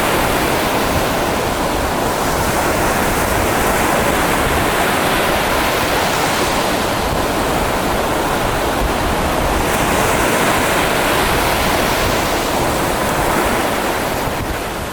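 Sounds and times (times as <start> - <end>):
waves rushing: 0.0 - 14.9
wind on microphone: 0.0 - 14.9.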